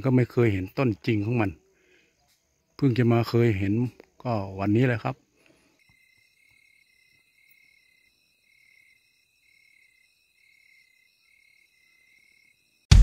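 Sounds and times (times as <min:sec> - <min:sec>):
pulsing low insect trill: 0:00.0 - 0:12.9
steady high insect trill: 0:00.0 - 0:12.9.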